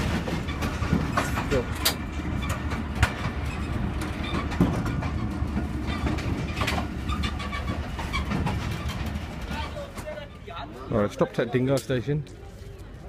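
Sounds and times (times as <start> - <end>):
wheels knocking on rail joints: 0.0 - 11.2
train rumbling on track: 0.0 - 13.0.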